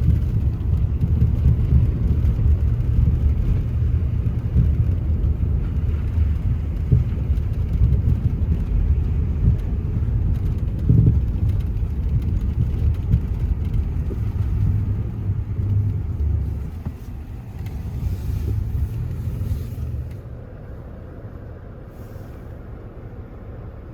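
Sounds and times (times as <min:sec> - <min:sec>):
car engine rumble: 0:00.0 - 0:23.9
road noise: 0:00.0 - 0:23.9.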